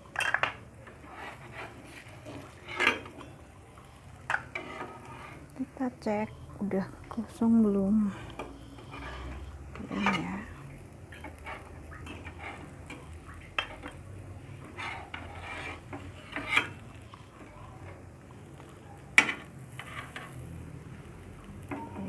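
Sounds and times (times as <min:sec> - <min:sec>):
utensil scraping a pan: 0:00.0 - 0:22.0.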